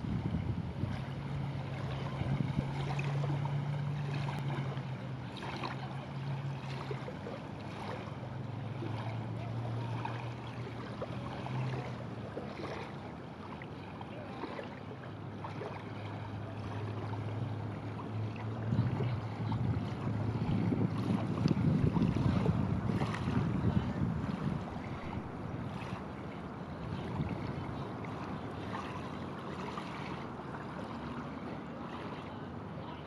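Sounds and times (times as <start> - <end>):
light water splashes: 0.0 - 33.0
small waves lapping: 0.0 - 33.0.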